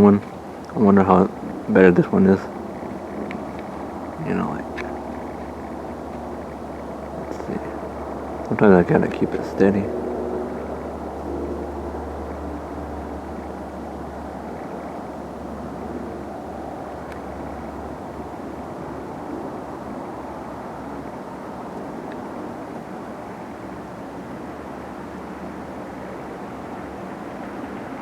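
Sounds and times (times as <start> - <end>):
steady background rumble: 0.0 - 28.0.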